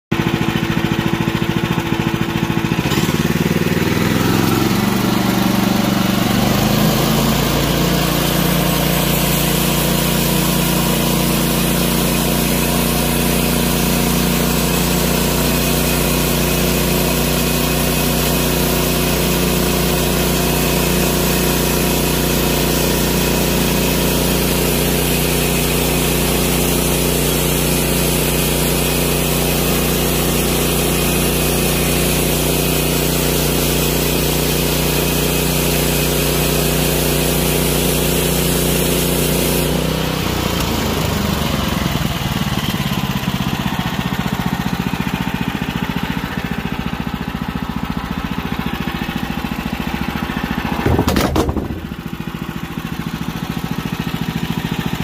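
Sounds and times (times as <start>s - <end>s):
gasoline engine revving: 0.1s - 55.0s
band saw blade cutting log: 0.8s - 55.0s.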